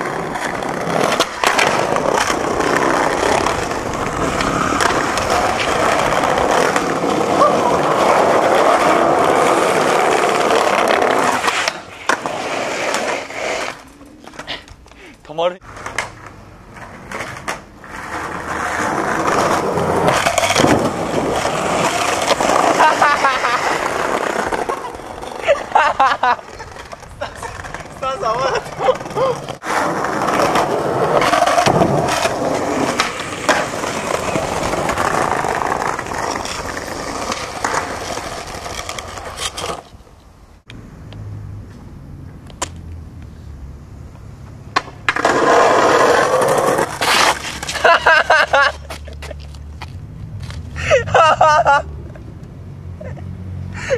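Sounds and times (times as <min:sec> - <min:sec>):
skateboard wheels rolling: 0:00.0 - 0:53.1.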